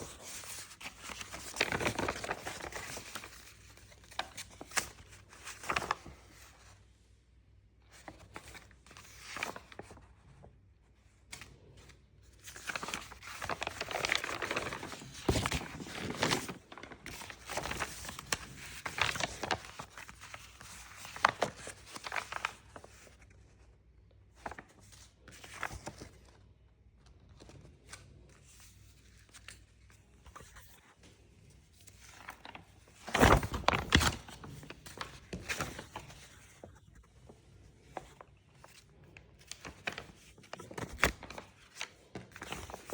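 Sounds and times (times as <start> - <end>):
paper rustling and crinkling: 0.0 - 6.9, 7.8 - 23.7, 24.3 - 42.9.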